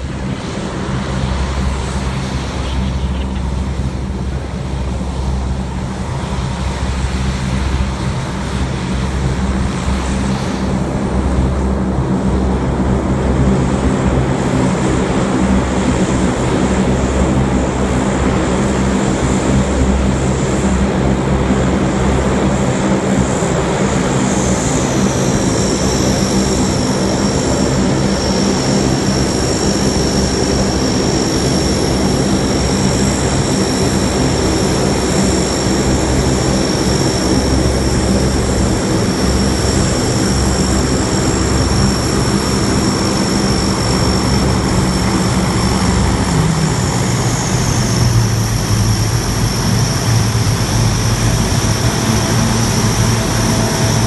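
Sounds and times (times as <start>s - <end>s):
deep propeller drone: 0.0s - 54.0s
high turbine whine: 0.0s - 54.0s.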